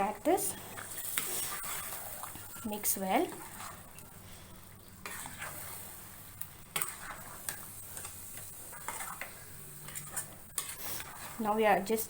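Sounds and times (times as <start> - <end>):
light sizzle: 0.0 - 12.0
spoon scraping a pan: 0.5 - 12.0.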